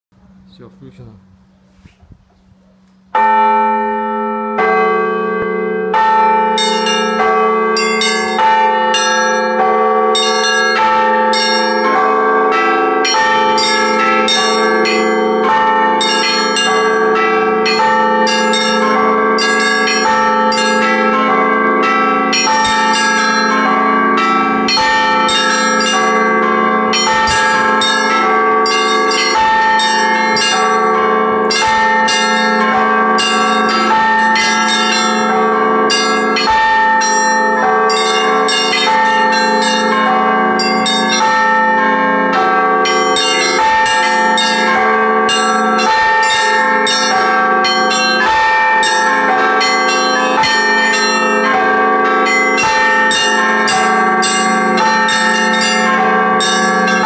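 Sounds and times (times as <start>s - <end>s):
church bells ringing: 3.0s - 57.0s.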